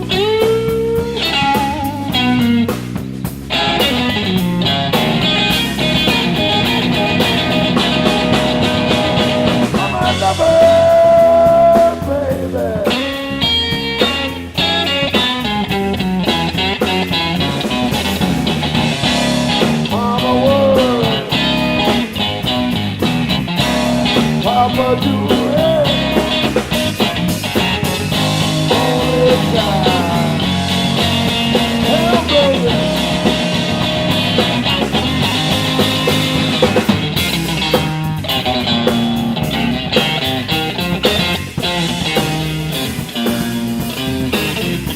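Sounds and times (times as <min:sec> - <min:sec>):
electric guitar solo: 0:00.0 - 0:02.7, 0:03.5 - 0:44.9
bass and drums: 0:00.0 - 0:44.9.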